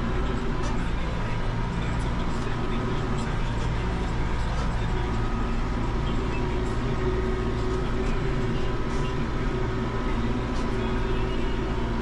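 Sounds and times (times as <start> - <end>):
faint steady whine: 0.0 - 12.0
tractor engine droning: 0.0 - 12.0.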